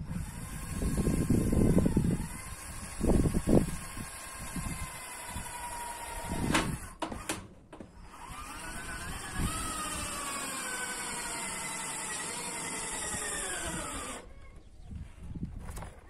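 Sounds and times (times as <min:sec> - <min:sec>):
motor whining: 0:00.0 - 0:14.4.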